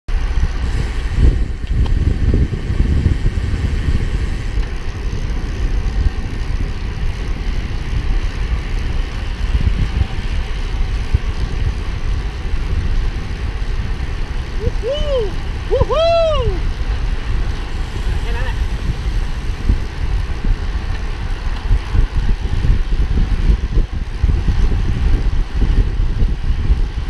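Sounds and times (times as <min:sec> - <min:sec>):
wind buffeting microphone: 0:00.1 - 0:27.0.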